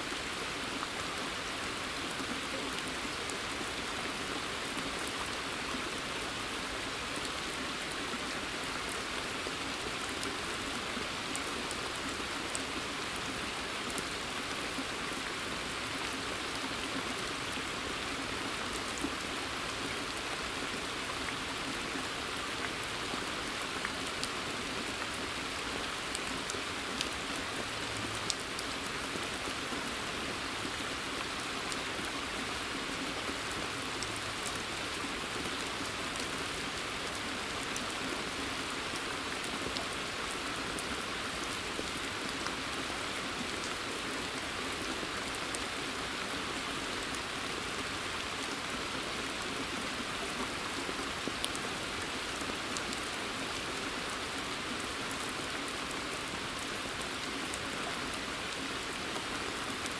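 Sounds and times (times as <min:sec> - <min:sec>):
rain on foliage and pond: 0:00.0 - 0:59.9.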